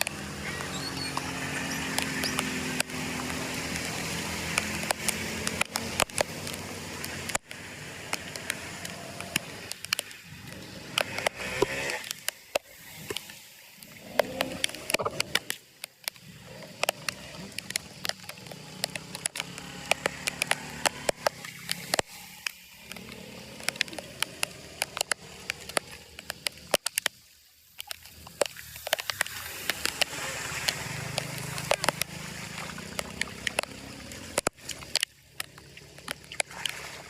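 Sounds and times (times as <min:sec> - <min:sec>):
debris clicking and crackling: 0:00.0 - 0:36.7
flood water sloshing: 0:00.0 - 0:37.0.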